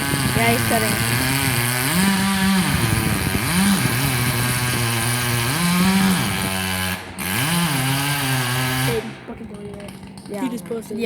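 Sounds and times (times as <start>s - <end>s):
chainsaw cutting into tree trunk: 0.0s - 11.0s.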